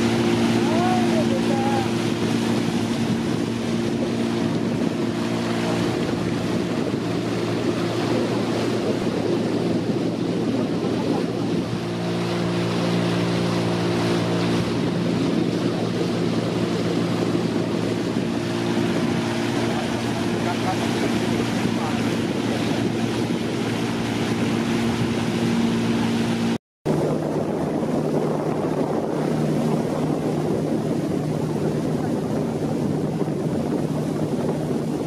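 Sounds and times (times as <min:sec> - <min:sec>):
motorboat engine running: 0:00.0 - 0:35.0
water rushing past hull: 0:00.0 - 0:35.0
wind on microphone: 0:00.0 - 0:35.0.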